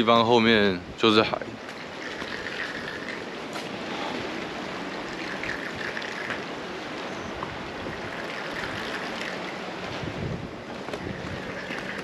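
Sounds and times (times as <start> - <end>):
sea waves washing on shore: 0.0 - 12.0.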